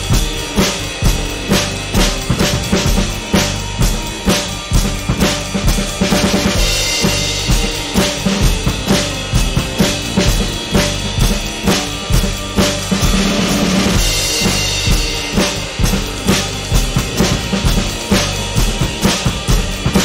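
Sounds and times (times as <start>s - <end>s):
bass drum: 0.0s - 20.0s
cymbal ringing: 0.0s - 20.0s
snare drum groove: 0.0s - 20.0s.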